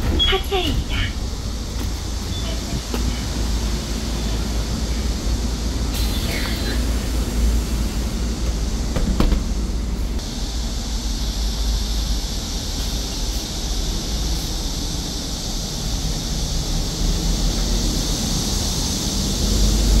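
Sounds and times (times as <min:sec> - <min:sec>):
bus drive and tyre rumble: 0:00.0 - 0:20.0.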